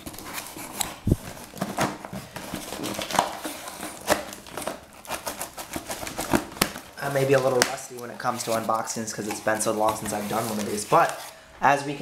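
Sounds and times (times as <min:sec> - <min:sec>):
cardboard box rustling and crackling: 0:00.0 - 0:11.2.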